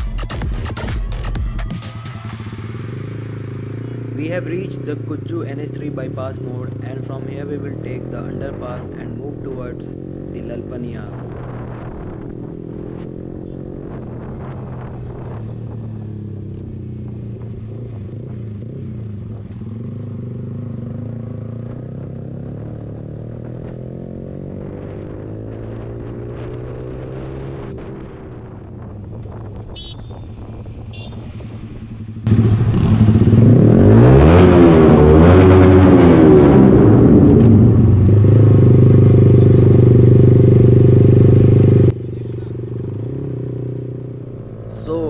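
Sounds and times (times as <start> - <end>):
motorcycle engine running: 2.7 - 45.0.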